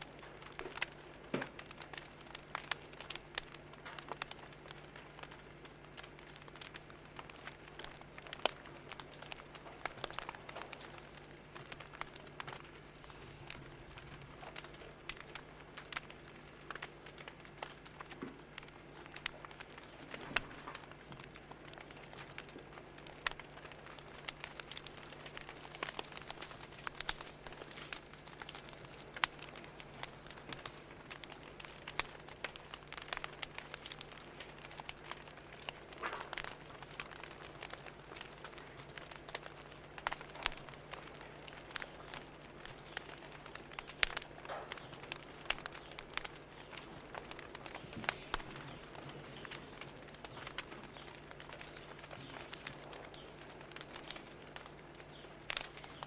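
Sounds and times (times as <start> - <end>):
steady low hum: 0.0 - 56.0
wood fire crackling: 0.0 - 56.0.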